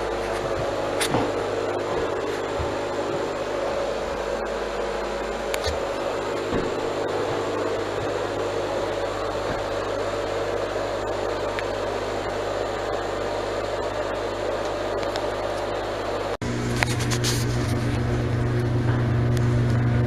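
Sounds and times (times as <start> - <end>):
exhaust fan running: 0.0 - 20.0.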